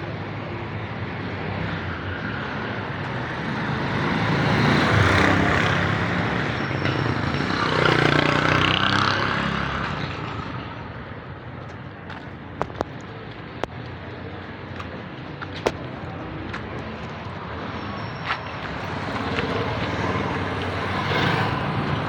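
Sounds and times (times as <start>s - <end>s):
vehicles passing close by: 0.0s - 22.0s.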